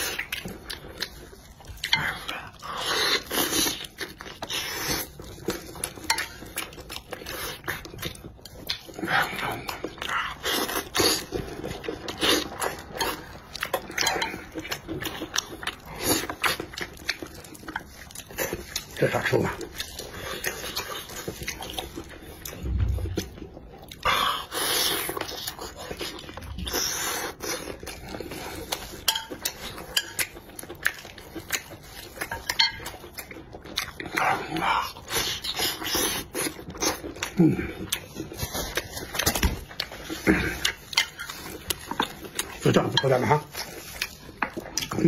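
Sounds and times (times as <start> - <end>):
wet chewing and lip-smacking: 0.0 - 45.0.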